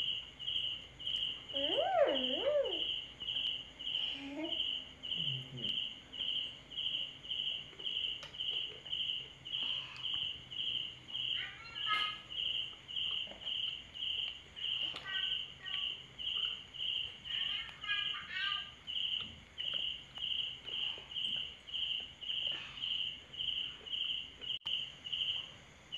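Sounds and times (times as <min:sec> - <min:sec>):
insect chirping: 0:00.0 - 0:25.9.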